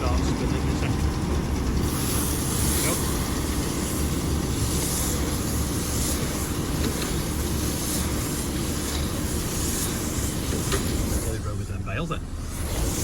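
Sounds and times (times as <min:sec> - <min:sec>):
round baler turning: 0:00.0 - 0:11.7
tractor running: 0:00.0 - 0:13.0.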